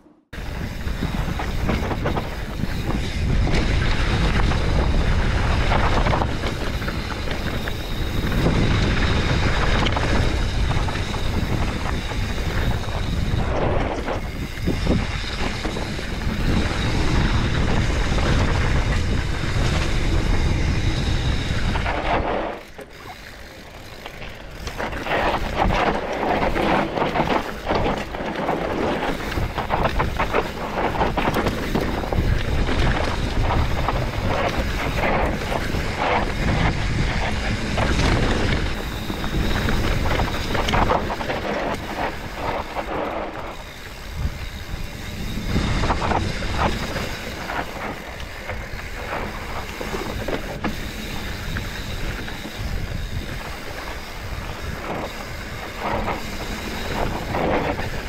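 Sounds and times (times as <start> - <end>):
bike tyre and rattle noise: 0.0 - 58.0
wind rushing over microphone: 0.0 - 58.0.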